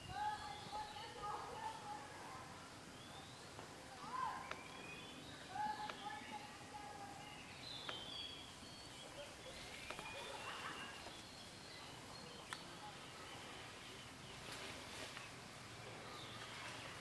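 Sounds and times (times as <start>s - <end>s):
faint forest ambience: 0.0s - 17.0s.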